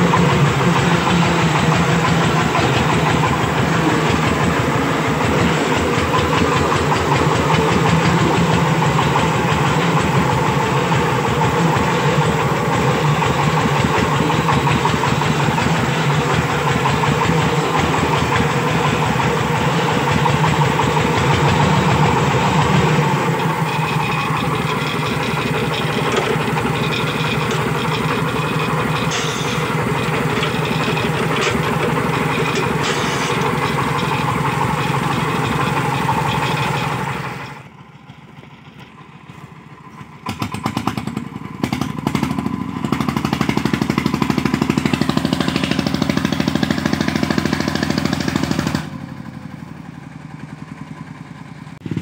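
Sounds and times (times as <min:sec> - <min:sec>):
diesel engine chugging: 0:00.0 - 0:52.0.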